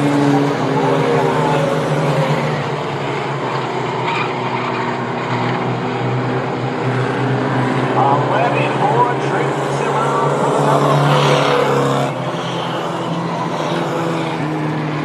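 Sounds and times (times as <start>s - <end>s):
racing truck engines droning: 0.0s - 15.0s.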